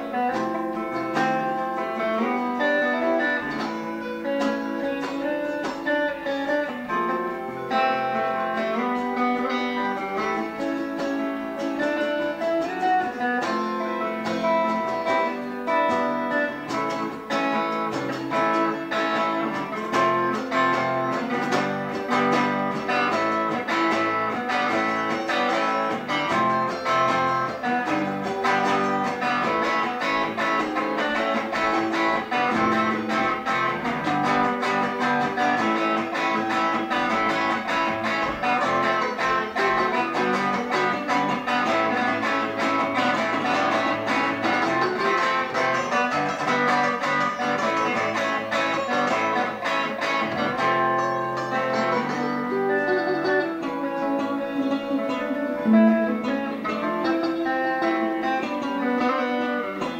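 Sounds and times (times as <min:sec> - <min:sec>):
acoustic guitar strumming: 0:00.0 - 0:59.9
electric guitar through amplifier: 0:00.0 - 0:59.9.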